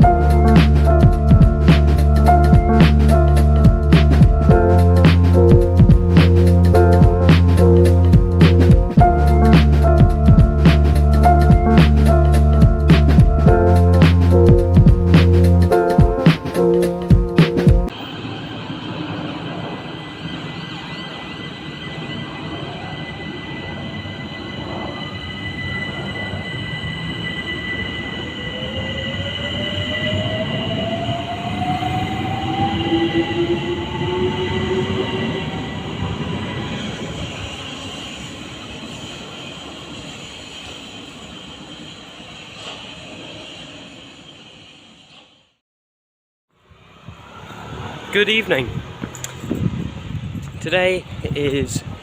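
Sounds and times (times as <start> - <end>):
high-pitched train squealing: 0.0 - 17.2, 17.9 - 45.6
train rumble: 0.0 - 44.2
train whine rising in pitch: 0.0 - 45.6, 46.6 - 50.5.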